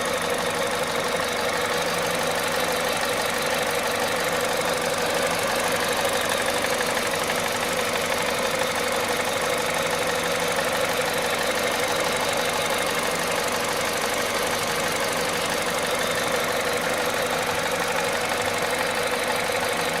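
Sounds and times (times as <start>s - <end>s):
petrol engine mechanical clatter: 0.0s - 20.0s.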